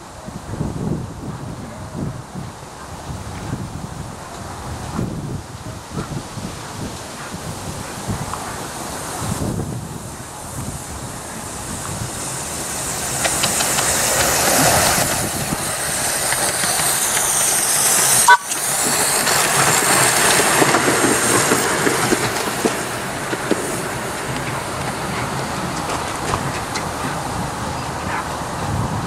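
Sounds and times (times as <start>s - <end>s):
miniature steam locomotive passing: 0.0s - 29.0s.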